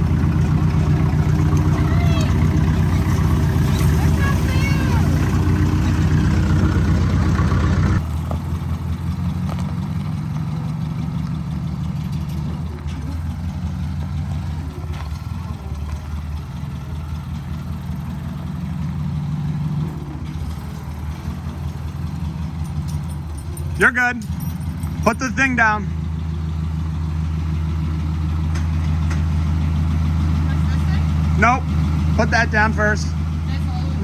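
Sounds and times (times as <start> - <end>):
tractor engine humming: 0.0 - 34.0.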